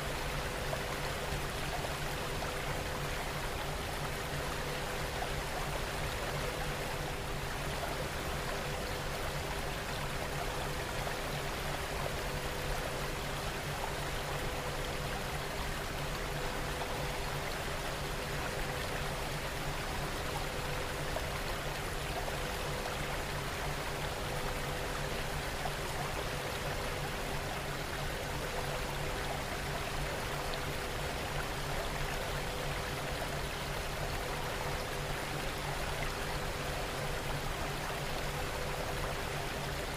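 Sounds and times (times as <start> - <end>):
faint steady hum tones: 0.0 - 39.9.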